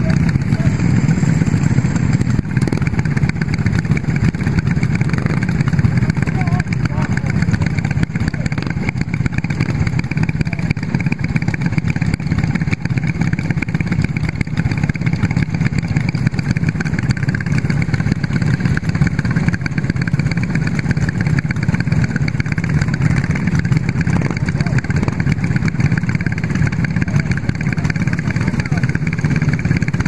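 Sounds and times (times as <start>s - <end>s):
kart engine idling: 0.0s - 30.0s.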